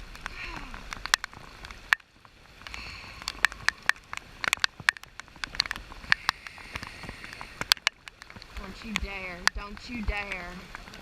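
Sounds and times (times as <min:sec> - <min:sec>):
rain hiss: 0:00.0 - 0:11.0
raindrops tapping on camera: 0:00.0 - 0:11.0
river water: 0:00.0 - 0:11.0.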